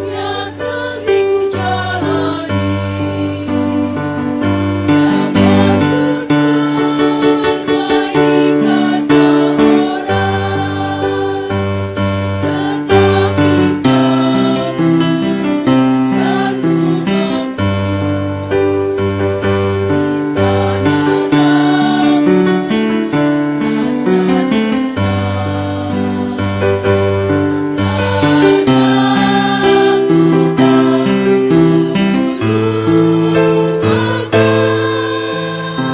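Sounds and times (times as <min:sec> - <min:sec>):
choir singing: 0:00.0 - 0:35.9
instrumental accompaniment: 0:00.0 - 0:35.9.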